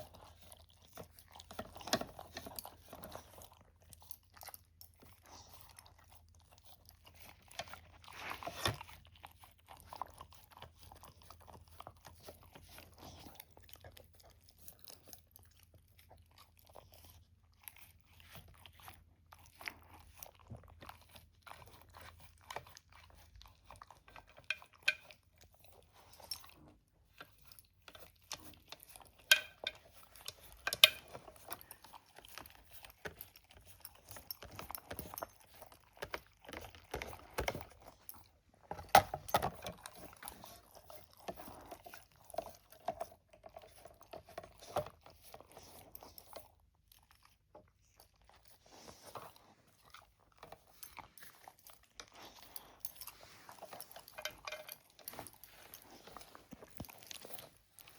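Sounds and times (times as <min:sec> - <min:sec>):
pet crunching and chewing food: 0:00.0 - 0:57.9.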